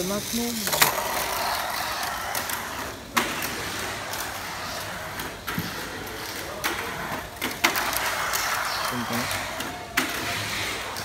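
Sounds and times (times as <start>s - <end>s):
toy car electric motor whirring: 0.0s - 11.0s.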